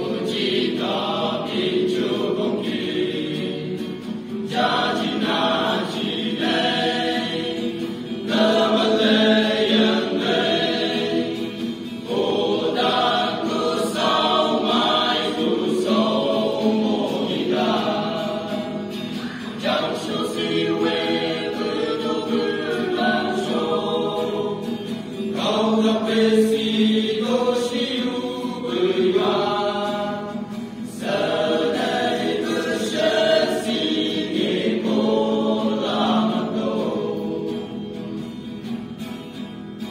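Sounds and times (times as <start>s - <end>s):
male voices singing together: 0.0s - 38.2s.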